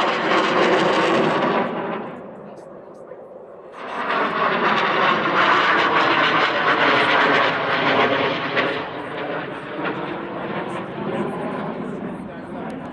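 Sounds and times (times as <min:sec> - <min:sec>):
jet engines roaring overhead: 0:00.0 - 0:12.9.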